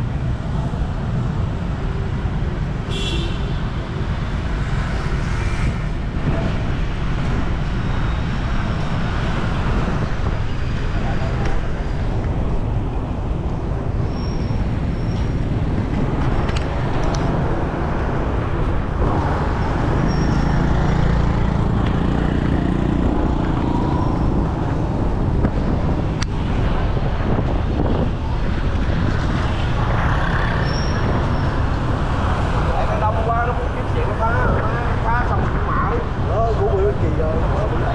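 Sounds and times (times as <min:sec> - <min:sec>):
city street traffic: 0:00.0 - 0:37.9.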